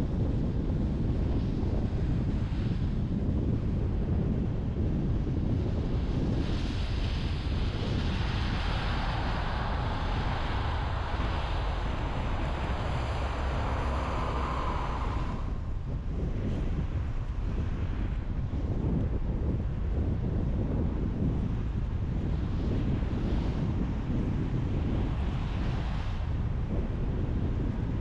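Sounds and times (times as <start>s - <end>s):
tyre and wind rumble: 0.0s - 28.0s.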